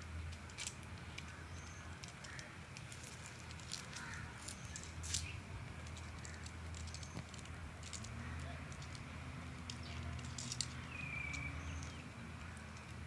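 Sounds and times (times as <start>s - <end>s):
bird chirping: 1.1s - 2.5s, 3.8s - 13.0s.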